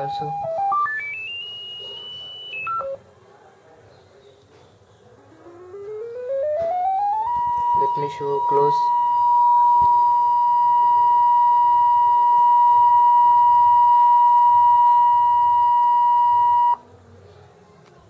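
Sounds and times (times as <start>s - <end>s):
steady test tone: 0.0s - 3.0s, 5.3s - 16.8s.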